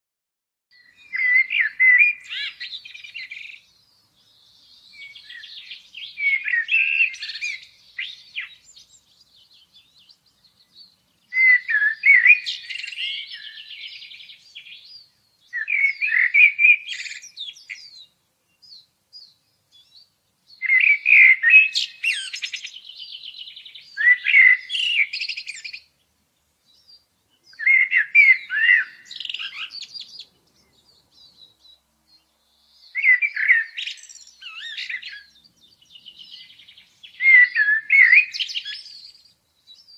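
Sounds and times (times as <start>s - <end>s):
songbird chirping and trilling: 0.7s - 39.9s.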